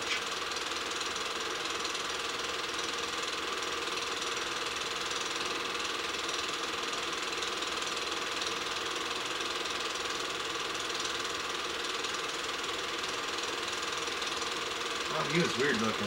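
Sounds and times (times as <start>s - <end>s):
film projector clattering: 0.0s - 16.0s.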